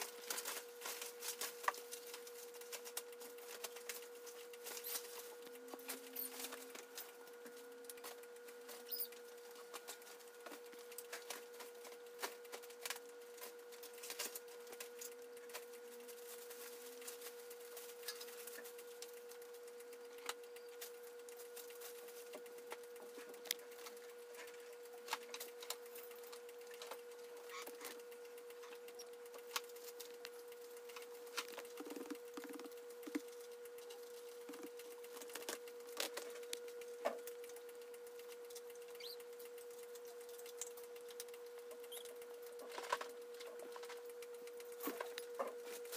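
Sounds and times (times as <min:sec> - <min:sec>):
faint hum: 0:00.0 - 0:45.9.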